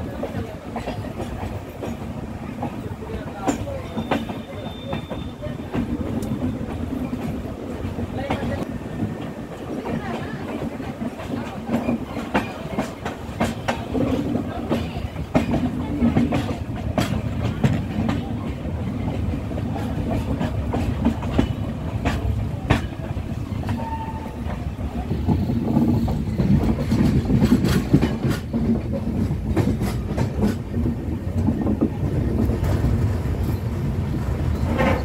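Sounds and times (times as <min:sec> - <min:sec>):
wheels clicking over rail joints: 0:00.0 - 0:33.6, 0:34.2 - 0:35.0
train wheels rumbling on rail: 0:00.0 - 0:35.0.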